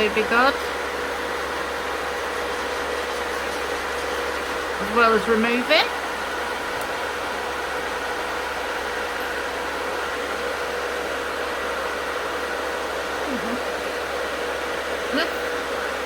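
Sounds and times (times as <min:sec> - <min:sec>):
dust collector fan whooshing: 0:00.0 - 0:16.0.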